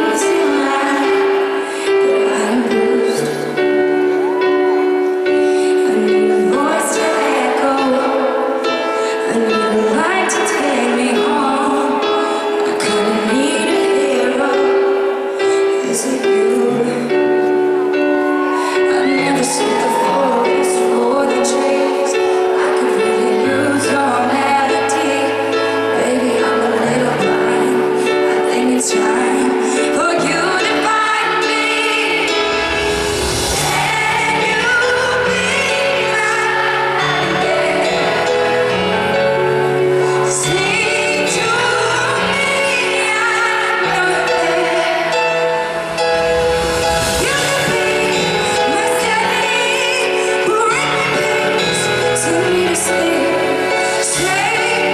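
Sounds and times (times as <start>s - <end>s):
woman singing pop ballad: 0.0s - 54.9s.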